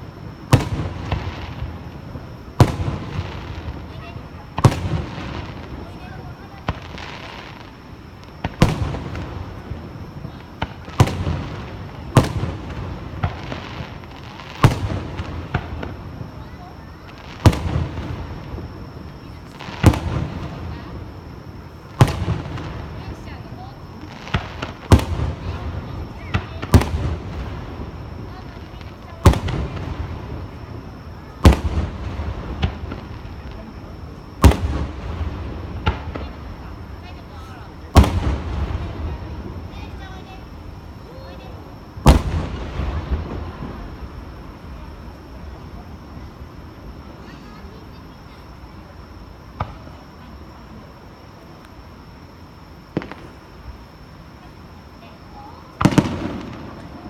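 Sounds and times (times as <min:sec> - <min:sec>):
fireworks cracking: 0:00.0 - 0:50.4, 0:52.9 - 0:54.0, 0:55.0 - 0:57.0
fireworks booming with echo: 0:00.0 - 0:57.0.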